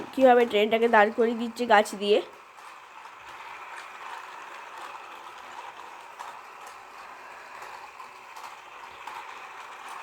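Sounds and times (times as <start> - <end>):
toy train motor whirring: 0.0 - 10.0.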